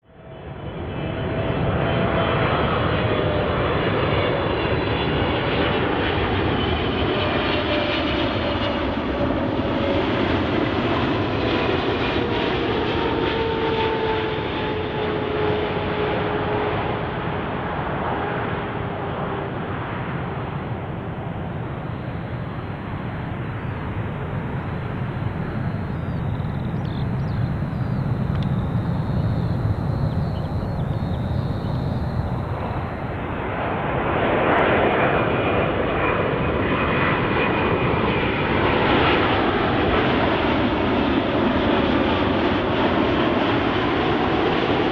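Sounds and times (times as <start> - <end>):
jet engines whining: 0.1 - 44.9.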